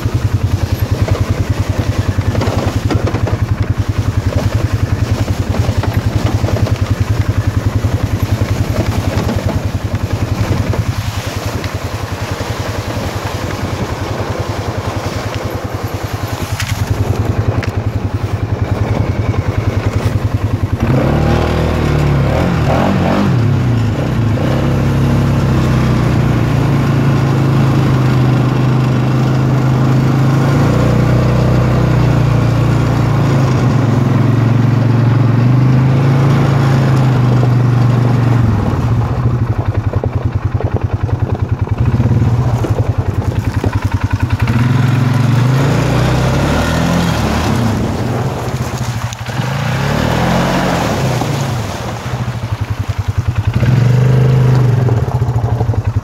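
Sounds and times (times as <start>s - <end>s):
single-cylinder engine running: 0.0s - 56.0s.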